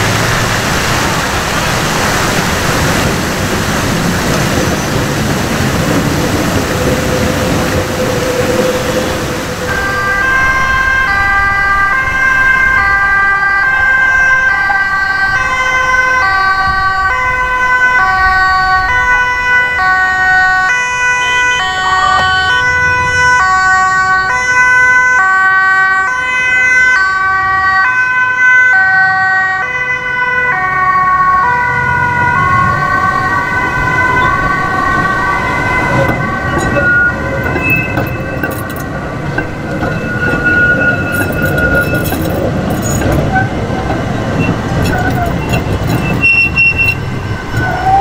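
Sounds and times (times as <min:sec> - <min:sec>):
tram wheels rolling on rails: 0:00.0 - 0:26.4, 0:30.4 - 0:48.0
two-tone emergency siren: 0:03.8 - 0:48.0.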